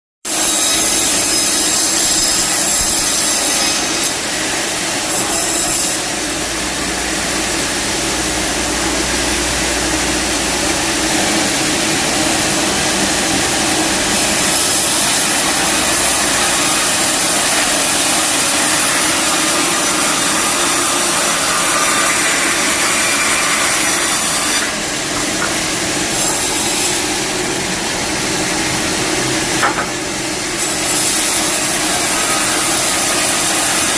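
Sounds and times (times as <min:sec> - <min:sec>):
power saw cutting wood: 0:00.3 - 0:33.9.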